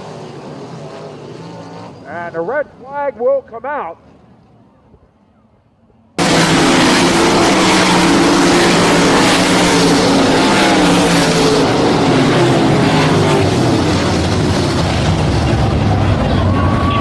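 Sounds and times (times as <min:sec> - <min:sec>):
race car engines running: 0:00.0 - 0:05.2, 0:05.9 - 0:17.0.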